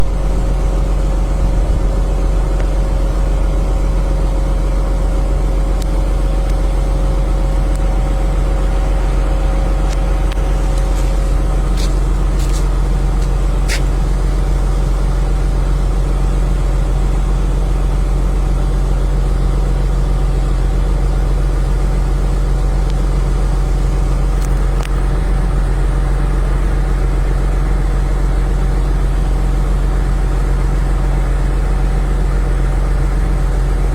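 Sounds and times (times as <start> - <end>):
vehicle engine rumbling: 0.0 - 33.9.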